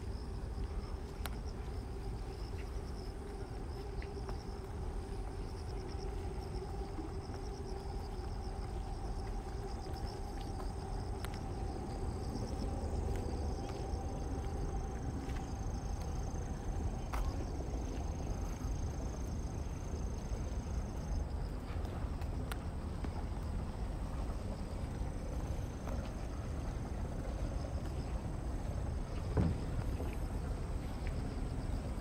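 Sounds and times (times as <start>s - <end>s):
faint steady hum: 0.0s - 32.0s
insects chirping: 0.0s - 32.0s
low outdoor rumble: 0.0s - 32.0s.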